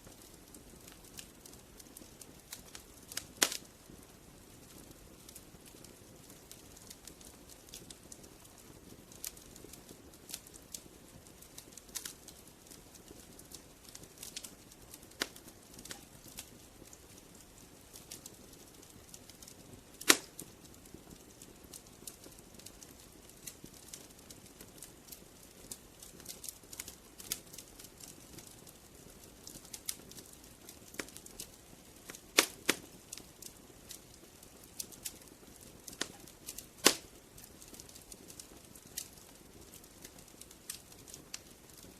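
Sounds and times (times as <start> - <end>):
fire popping: 0.0 - 41.9
wood fire crackling: 0.0 - 41.9.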